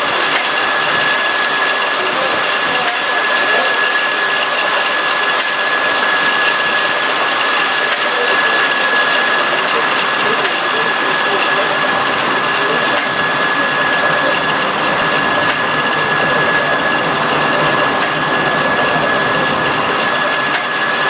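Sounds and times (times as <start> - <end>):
high-pitched whine: 0.0 - 21.0
sawmill machinery running: 0.0 - 21.0.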